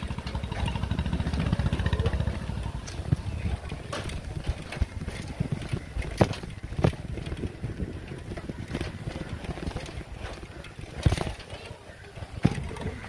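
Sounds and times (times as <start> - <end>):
bicycle knocking over bumps: 0.0 - 13.0
bicycle tyres rumbling on dirt: 0.0 - 13.0
wind buffeting microphone: 0.0 - 13.0.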